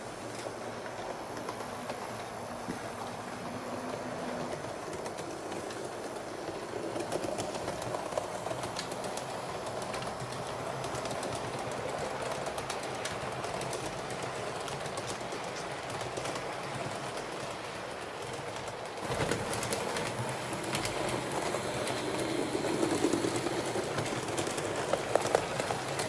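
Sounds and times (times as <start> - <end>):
model train rolling hum: 0.0 - 26.0
wheels clicking over rail joints: 0.0 - 26.0.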